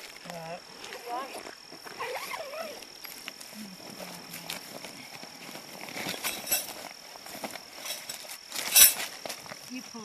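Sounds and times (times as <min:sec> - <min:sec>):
canvas rustling: 0:00.0 - 0:10.0.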